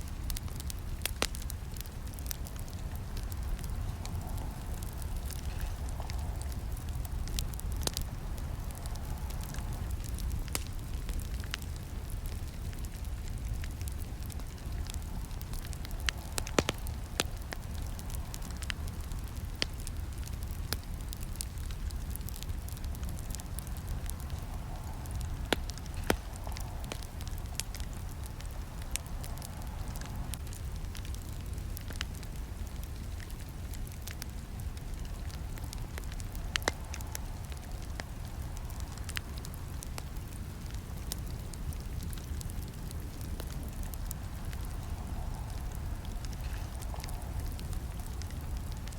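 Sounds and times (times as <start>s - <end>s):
burning wood crackling: 0.0s - 48.9s
flames rumbling: 0.0s - 48.9s.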